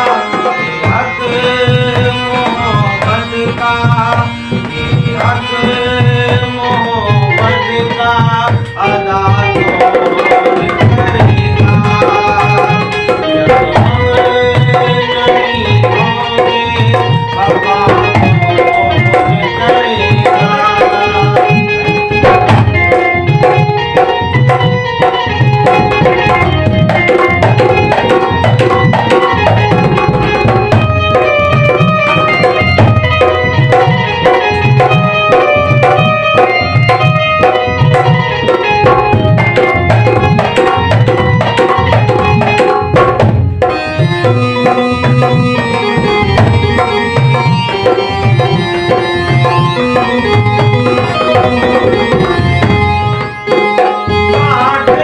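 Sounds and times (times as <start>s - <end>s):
melodic instruments: 0.0s - 55.0s
tabla rhythm: 0.0s - 55.0s.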